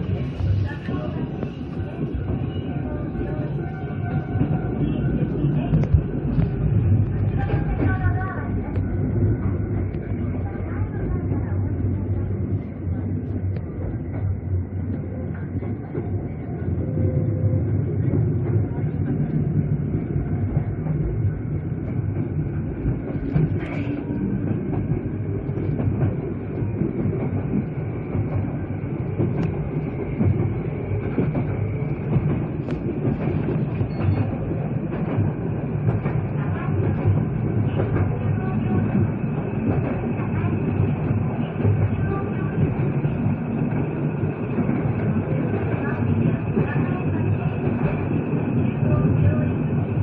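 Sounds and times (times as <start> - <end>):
train wheels rolling on rail: 0.0 - 50.0.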